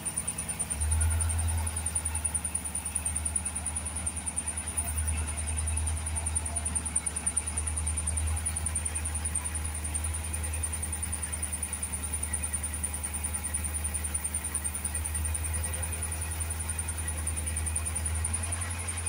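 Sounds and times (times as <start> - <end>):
diesel engine running: 0.0 - 19.0
high pulsing whine: 0.0 - 19.0.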